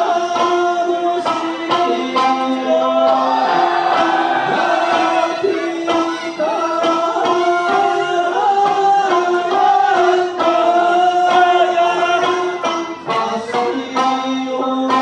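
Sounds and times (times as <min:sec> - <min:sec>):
person singing folk melody: 0:00.0 - 0:15.0
plucked lute: 0:00.0 - 0:15.0.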